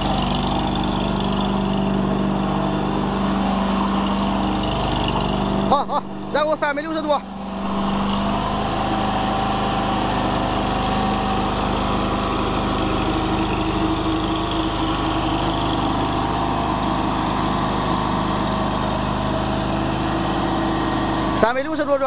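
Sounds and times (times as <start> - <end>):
small loader engine running: 0.0 - 22.0.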